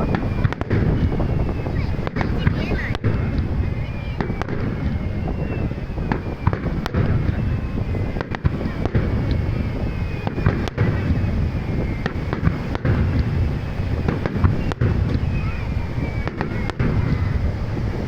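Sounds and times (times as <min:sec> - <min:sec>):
fireworks sharp bangs: 0:00.0 - 0:18.0
low rumble of distant explosions: 0:00.0 - 0:18.0.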